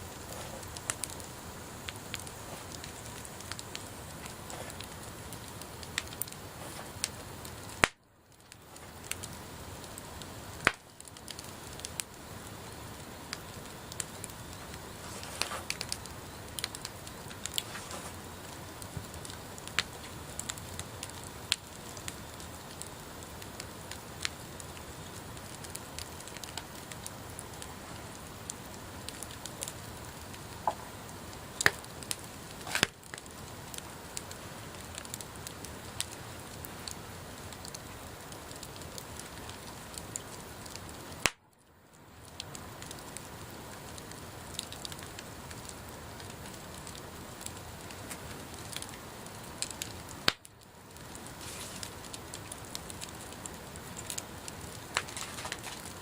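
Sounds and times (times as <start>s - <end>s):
bonfire crackling and hissing: 0.0s - 56.0s.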